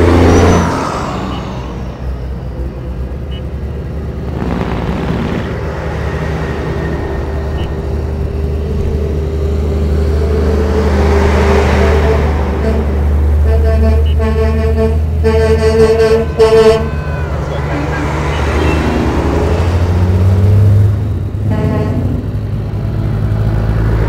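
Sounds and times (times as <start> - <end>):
diesel truck engines droning: 0.0 - 24.0.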